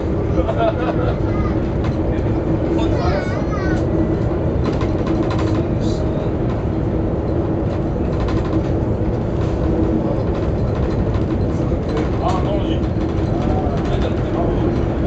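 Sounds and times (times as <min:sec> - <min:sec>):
constant hum: 0:00.0 - 0:15.0
train cabin rumble: 0:00.0 - 0:15.0.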